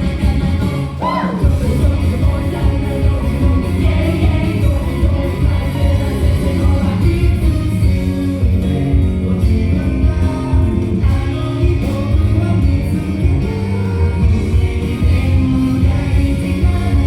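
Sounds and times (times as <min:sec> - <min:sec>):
pop song with singing: 0:00.0 - 0:17.0.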